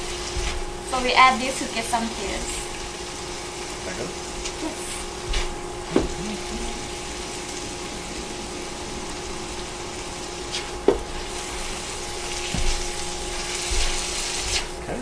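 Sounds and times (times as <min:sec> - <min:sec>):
chicken sizzling in a frying pan: 0:00.0 - 0:15.0
steady hum: 0:00.0 - 0:15.0.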